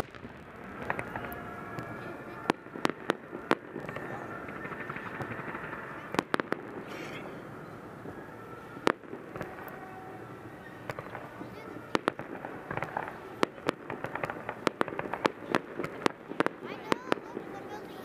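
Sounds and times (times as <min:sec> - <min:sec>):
firework cracks and pops: 0:00.0 - 0:07.2, 0:08.7 - 0:10.0, 0:10.6 - 0:18.0
loud firework bang: 0:00.0 - 0:07.4, 0:10.6 - 0:17.9.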